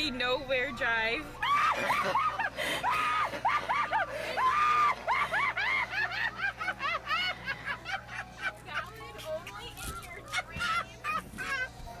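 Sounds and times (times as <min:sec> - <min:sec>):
high-pitched laughter: 0:01.4 - 0:12.0.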